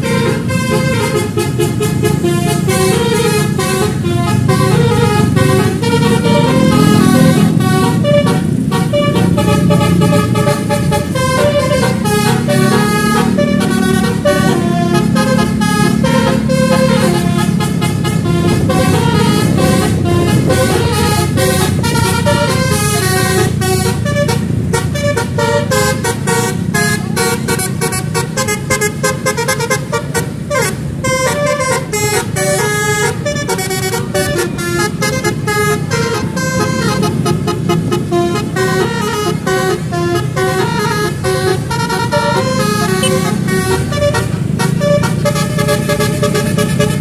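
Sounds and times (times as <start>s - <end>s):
engine and road rumble: 0.0s - 47.0s
musical air horn melody: 0.0s - 47.0s.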